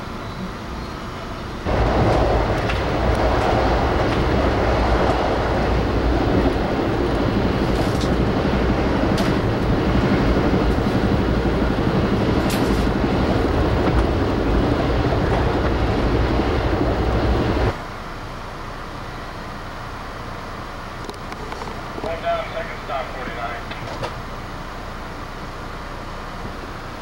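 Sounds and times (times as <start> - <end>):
train wheel and track rumble: 0.0 - 27.0.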